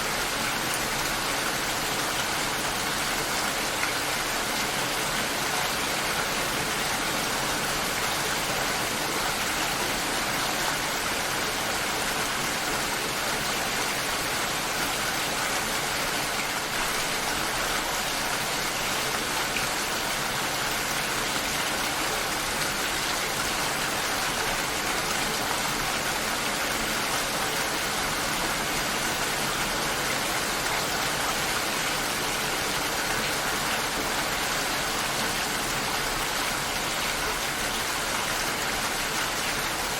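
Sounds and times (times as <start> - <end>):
rain shower: 0.0 - 39.9.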